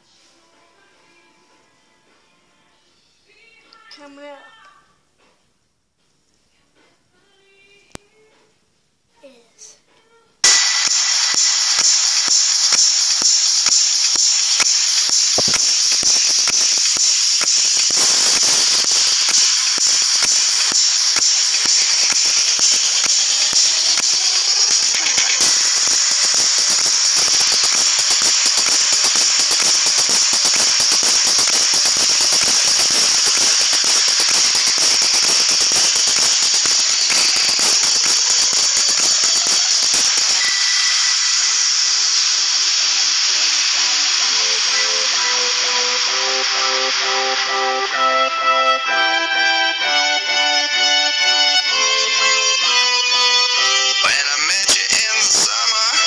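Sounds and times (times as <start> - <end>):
steady hiss: 10.4 - 56.0.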